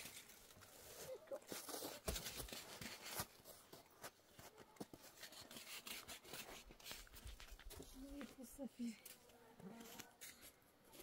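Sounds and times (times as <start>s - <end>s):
objects rustling and scraping: 0.0s - 11.0s.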